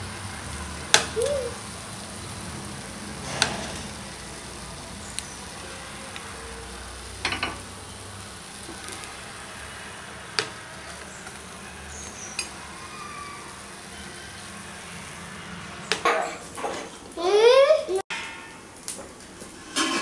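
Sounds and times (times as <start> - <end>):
oil sizzling in a pan: 0.0 - 18.0.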